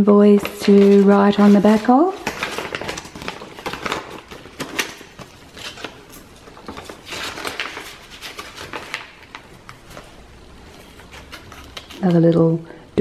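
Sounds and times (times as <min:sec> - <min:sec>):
paper rustling and crinkling: 0:00.0 - 0:12.4
journal pages turning: 0:00.3 - 0:12.3.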